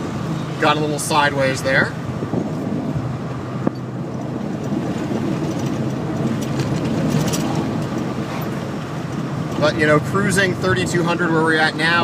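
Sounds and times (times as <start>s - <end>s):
car engine droning in cabin: 0.0s - 12.0s.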